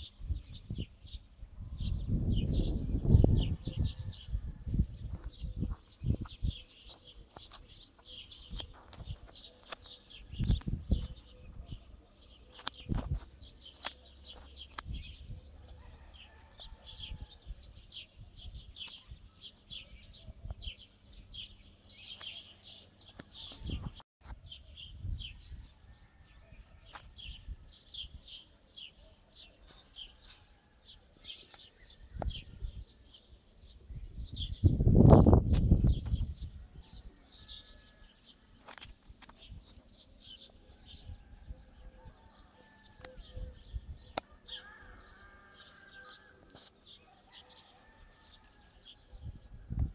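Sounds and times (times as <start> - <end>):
small birds chirping: 0.0 - 48.2.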